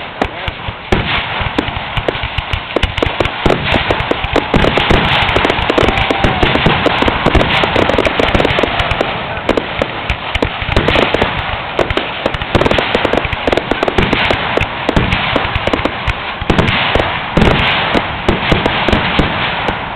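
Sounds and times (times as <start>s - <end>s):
fireworks bangs and crackling: 0.0s - 19.9s.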